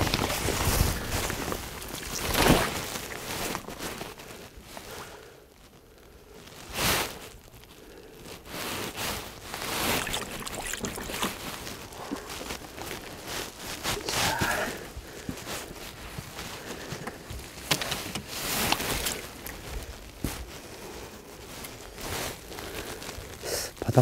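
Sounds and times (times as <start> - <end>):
rustling and handling fishing gear: 0.0 - 24.0.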